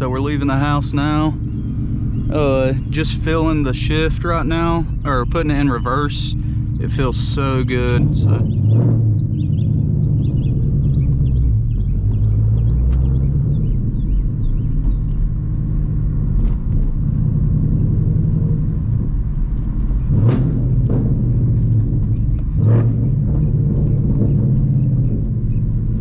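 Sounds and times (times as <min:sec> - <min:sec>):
car exhaust rumble: 0:00.0 - 0:26.0.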